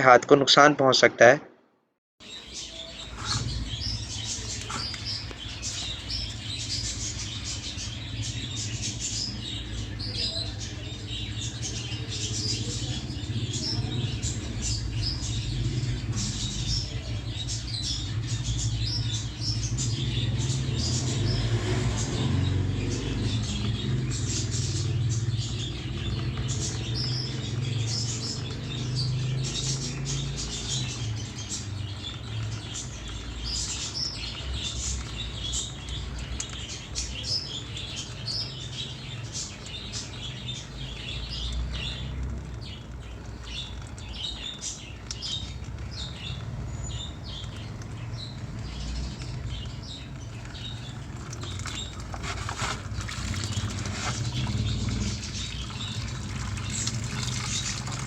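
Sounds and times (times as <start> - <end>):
small birds chirping: 2.2 - 58.0.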